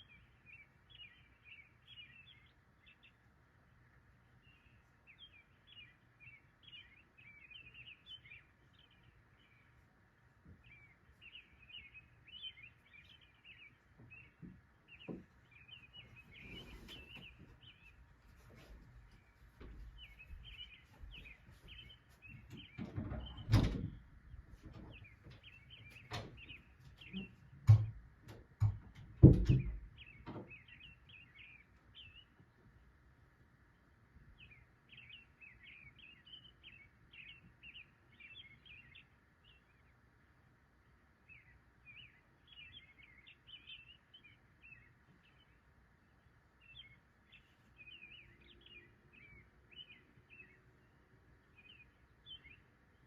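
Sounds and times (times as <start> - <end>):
small birds chirping: 0.0 - 32.9, 33.6 - 53.0.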